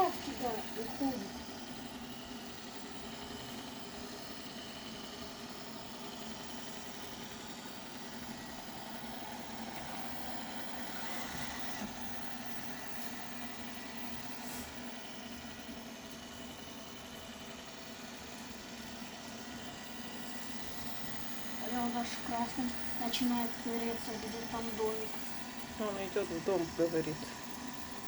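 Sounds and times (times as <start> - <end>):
robot vacuum cleaner hum: 0.0 - 28.0.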